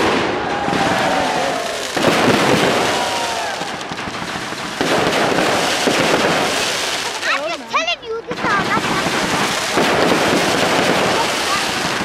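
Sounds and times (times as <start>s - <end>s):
fireworks bursting with crackling: 0.0s - 12.0s.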